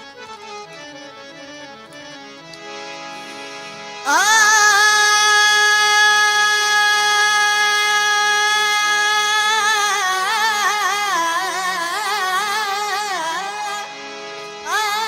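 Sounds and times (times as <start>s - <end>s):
person singing wordless melody: 0.0s - 15.0s.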